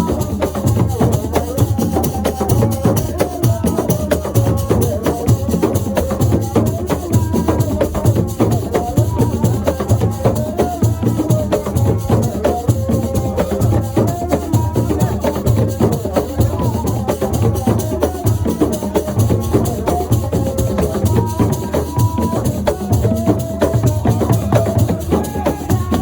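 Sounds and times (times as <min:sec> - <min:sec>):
fast hand-drum percussion: 0:00.0 - 0:26.0
wavering voices: 0:00.0 - 0:26.0.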